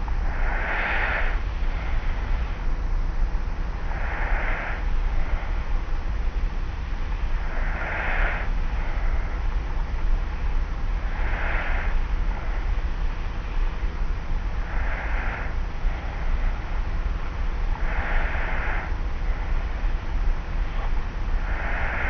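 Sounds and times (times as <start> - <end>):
low hum: 0.0 - 22.0
tape hiss: 0.0 - 22.0
person snoring softly: 0.2 - 2.7, 3.8 - 5.7, 6.7 - 22.0.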